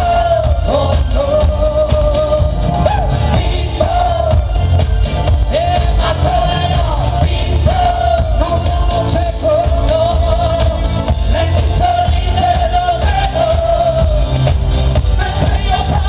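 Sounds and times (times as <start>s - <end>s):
heavy bass beat: 0.0s - 16.0s
live pop dance band: 0.0s - 16.0s.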